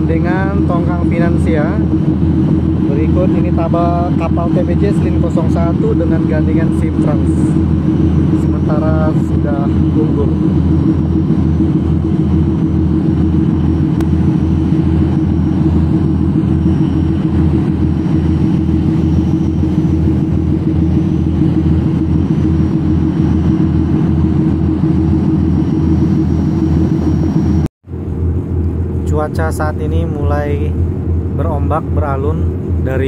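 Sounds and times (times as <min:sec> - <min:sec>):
tugboat diesel engines throbbing: 0:00.0 - 0:33.0.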